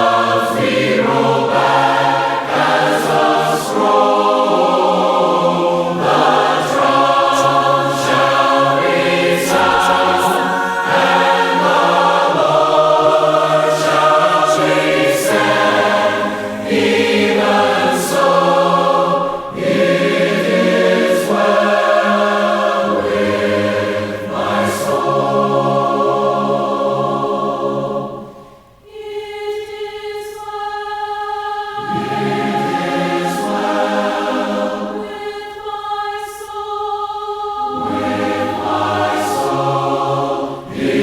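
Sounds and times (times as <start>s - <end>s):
choir singing a hymn: 0.0s - 41.0s.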